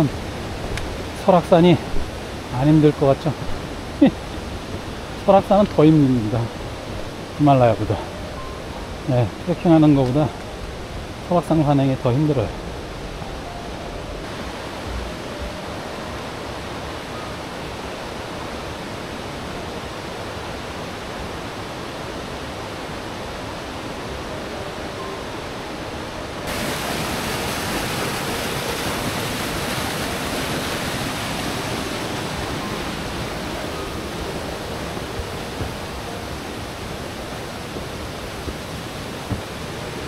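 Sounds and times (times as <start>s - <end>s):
mountain stream rushing: 0.0s - 40.0s.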